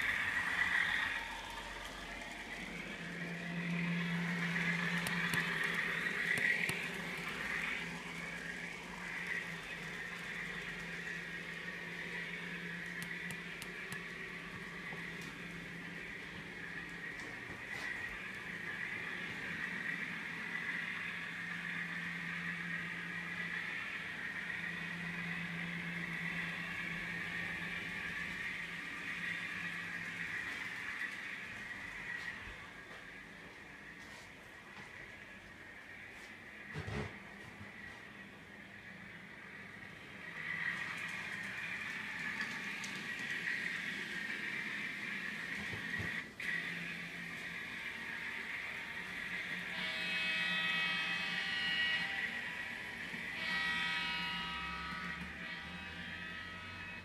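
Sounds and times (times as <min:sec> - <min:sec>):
light clicks of rolling train: 0:00.0 - 0:49.8
model diesel engine sound: 0:00.0 - 0:57.0.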